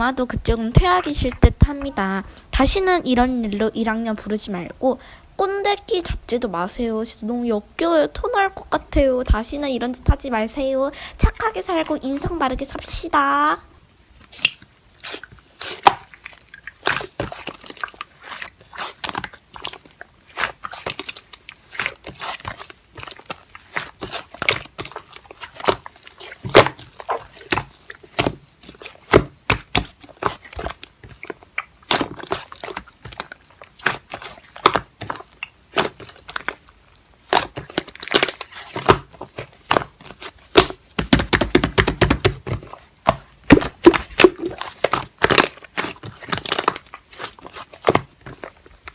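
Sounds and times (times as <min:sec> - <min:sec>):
slime squishing with crackling pops: 0:00.0 - 0:04.7, 0:14.0 - 0:48.9.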